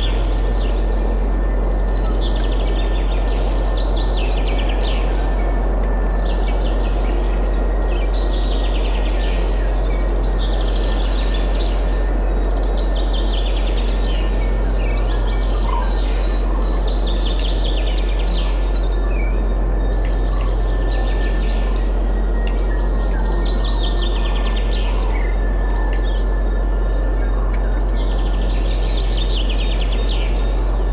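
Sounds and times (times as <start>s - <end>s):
songbirds singing: 0.0s - 30.9s.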